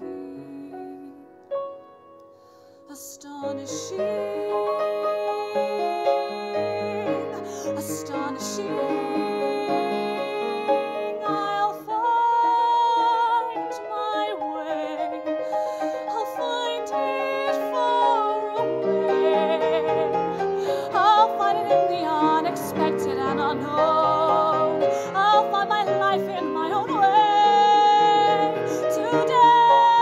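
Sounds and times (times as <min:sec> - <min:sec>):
woman singing with vibrato: 0:00.0 - 0:01.2, 0:02.9 - 0:30.0.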